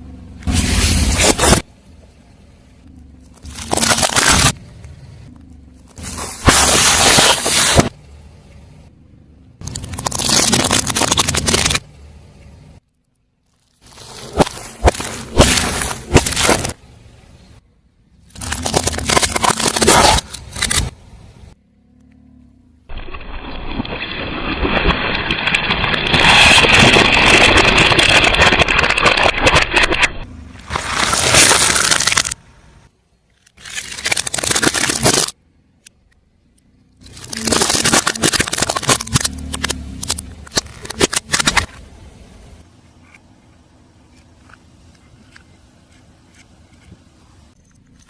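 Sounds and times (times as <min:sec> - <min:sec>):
car tyre crushing objects: 0:00.2 - 0:02.3, 0:02.9 - 0:08.3, 0:09.6 - 0:17.5, 0:18.2 - 0:21.6, 0:22.9 - 0:35.4, 0:36.8 - 0:48.0.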